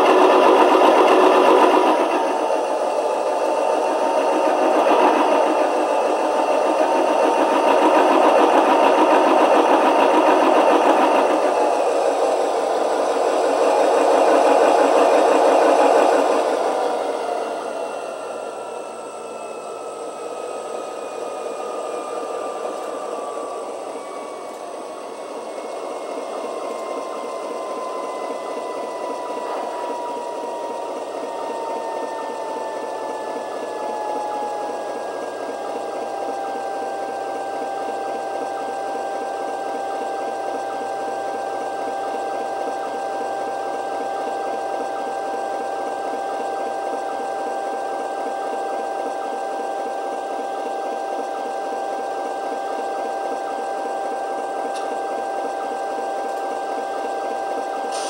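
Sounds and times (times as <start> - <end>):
diesel engine through small speaker: 0.0 - 58.0
turbocharger whine: 0.0 - 58.0.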